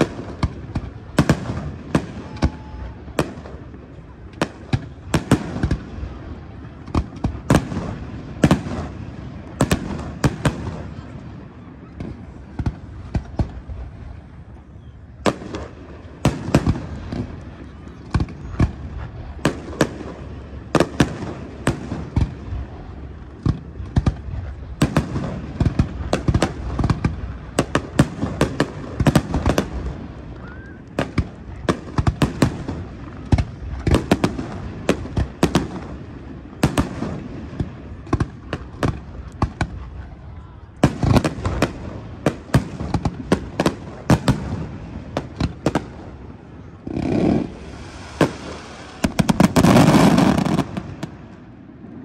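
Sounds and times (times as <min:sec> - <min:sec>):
fireworks bursting with sharp bangs: 0:00.0 - 0:52.0.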